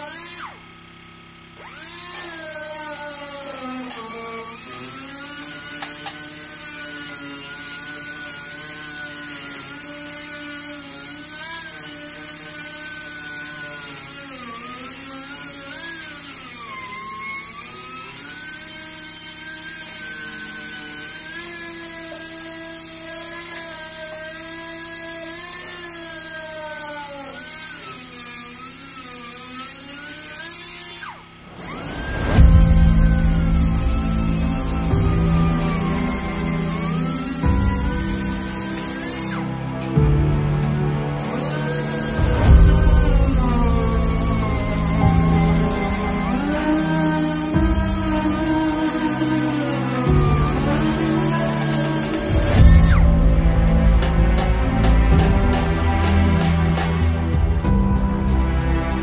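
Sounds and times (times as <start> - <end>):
orbital sander whining: 0.0 - 59.0.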